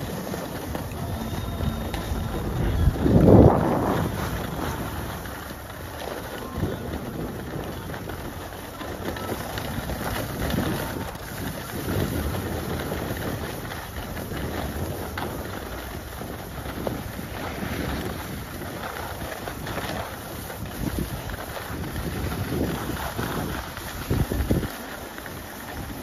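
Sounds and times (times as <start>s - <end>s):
skis hissing over snow: 0.0s - 26.0s
wind rushing over microphone: 0.0s - 26.0s.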